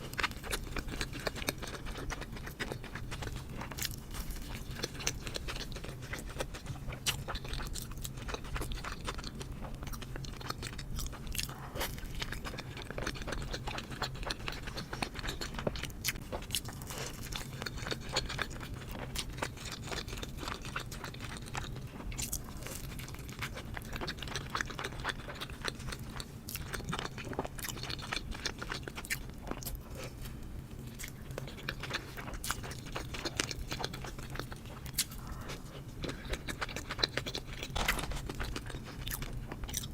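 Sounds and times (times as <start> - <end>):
chewing with crunchy bites: 0.0 - 39.9.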